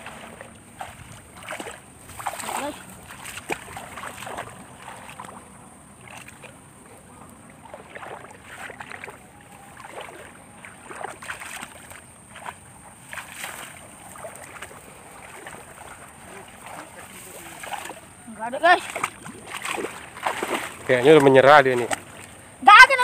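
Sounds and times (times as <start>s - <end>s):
muddy water splashing: 0.0s - 23.0s.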